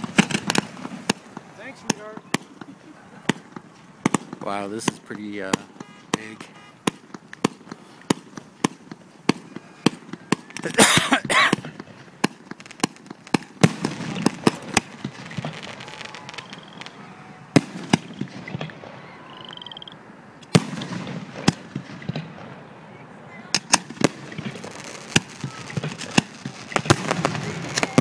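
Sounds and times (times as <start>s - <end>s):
fireworks bangs and pops: 0.0s - 19.2s, 20.4s - 22.7s, 23.5s - 28.0s
fireworks crackling: 0.0s - 28.0s.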